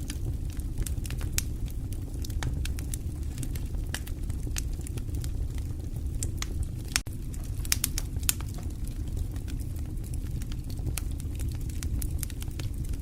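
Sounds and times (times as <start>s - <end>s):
fire flames rumbling: 0.0s - 13.0s
logs crackling and popping: 0.0s - 13.0s.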